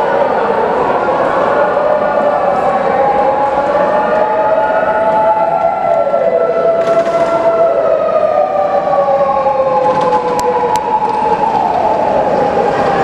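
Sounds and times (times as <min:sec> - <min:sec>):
fire engine wail siren: 0:00.0 - 0:13.0.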